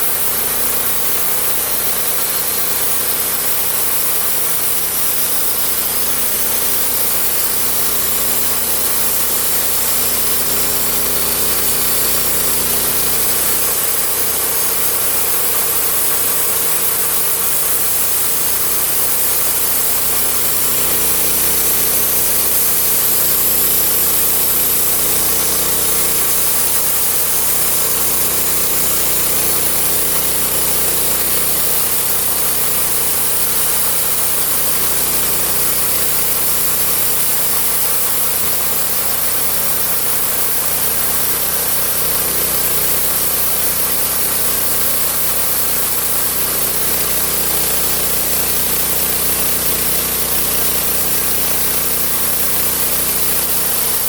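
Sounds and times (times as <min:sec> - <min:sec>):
saw cutting wood: 0:00.0 - 0:54.0
sawmill engine running: 0:00.0 - 0:54.0.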